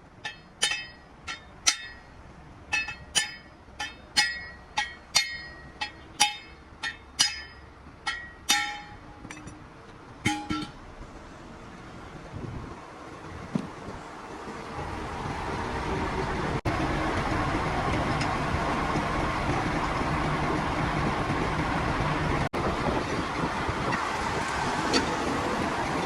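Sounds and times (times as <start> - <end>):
road vehicle noise: 0.0 - 26.0.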